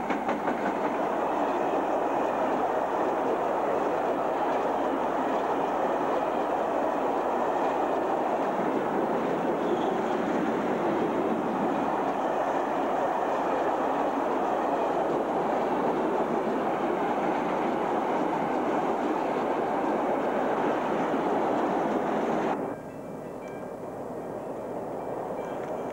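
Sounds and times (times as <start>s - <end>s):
train wheels on rails: 0.0s - 25.9s.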